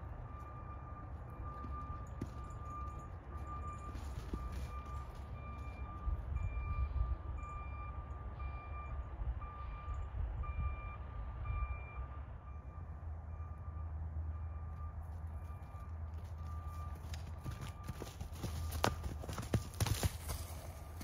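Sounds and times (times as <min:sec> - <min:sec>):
truck reversing alarm beeping: 0:00.0 - 0:21.0.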